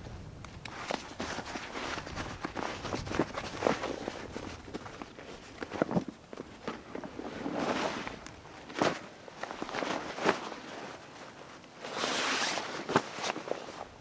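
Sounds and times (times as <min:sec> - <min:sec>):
fabric jacket rustling: 0:00.6 - 0:14.0.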